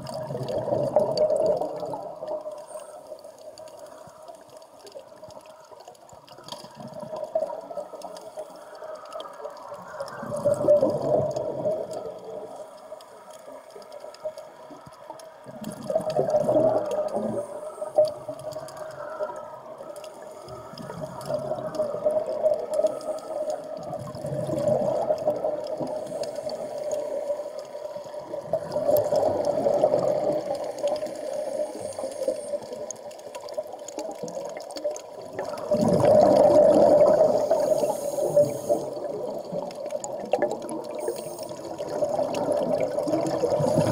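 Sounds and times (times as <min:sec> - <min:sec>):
exhaled bubbles gurgling: 0:00.0 - 0:43.9.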